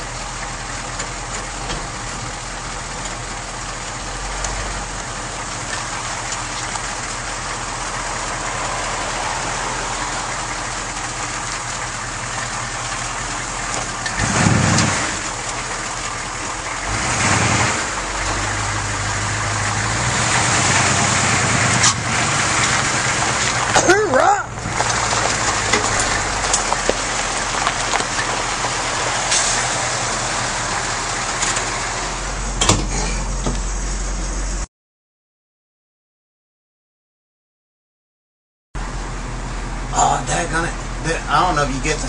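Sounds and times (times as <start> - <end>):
diesel engine running: 0.0 - 34.7, 38.8 - 42.0
road and cab noise: 0.0 - 34.7, 38.8 - 42.0.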